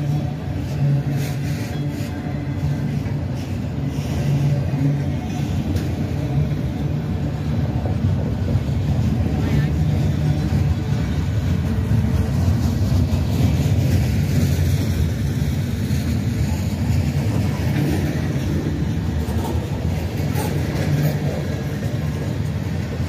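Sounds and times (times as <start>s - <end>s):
train rumbling by: 0.0s - 23.0s.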